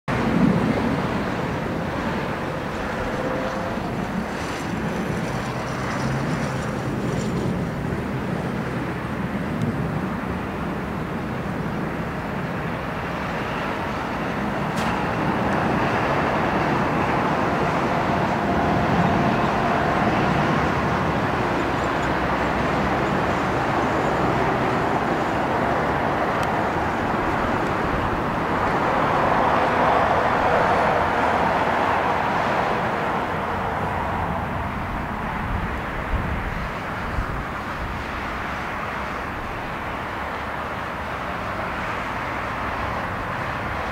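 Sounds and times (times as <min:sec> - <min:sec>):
jet engine roar: 0:00.1 - 0:43.9.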